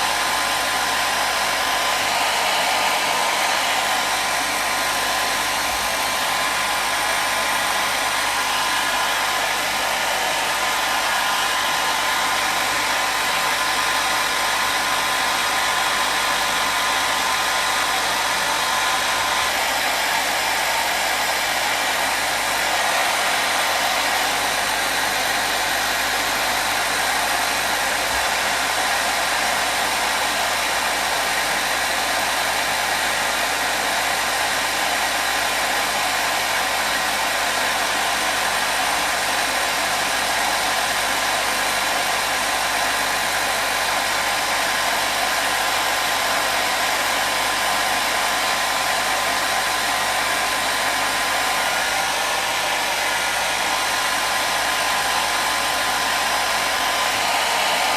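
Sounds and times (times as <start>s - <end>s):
hair dryer running: 0.0s - 57.9s.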